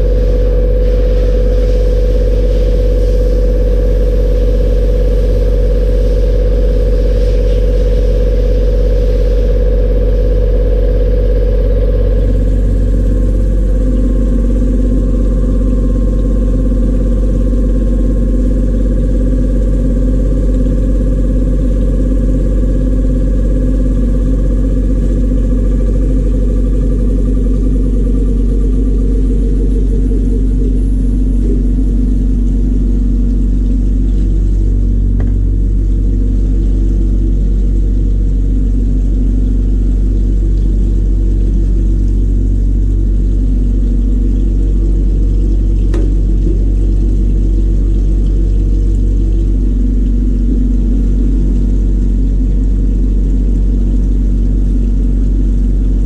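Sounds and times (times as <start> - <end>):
loud low machine drone: 0.0 - 56.0.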